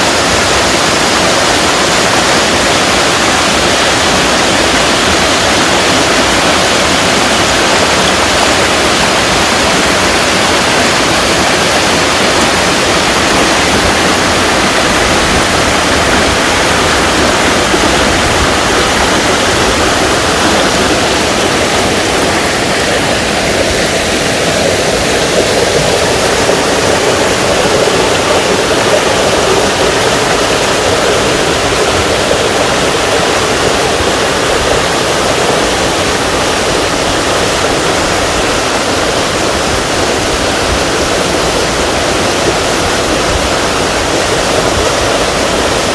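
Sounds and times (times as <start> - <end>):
waterfall rushing and splashing: 0.0 - 45.9.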